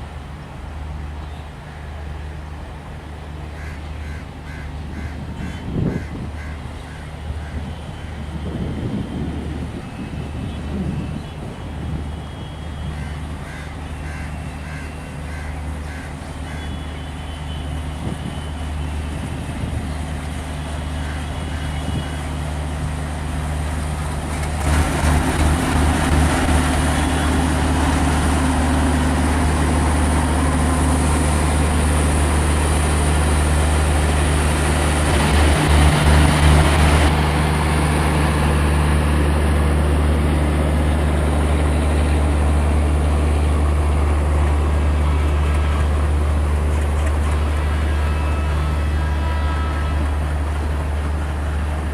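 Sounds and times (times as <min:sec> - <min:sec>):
electric train hum: 0:00.0 - 0:51.9
wheels rumbling on rail: 0:00.0 - 0:51.9.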